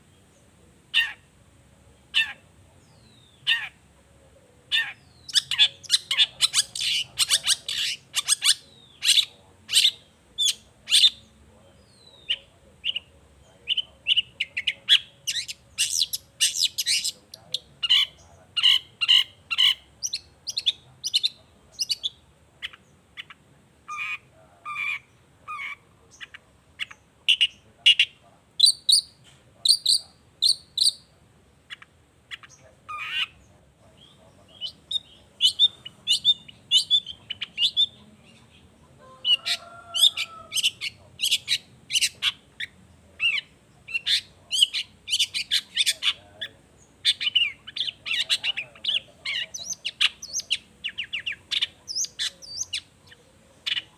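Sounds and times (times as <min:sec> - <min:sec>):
shrike chirping song: 0:04.7 - 0:53.9.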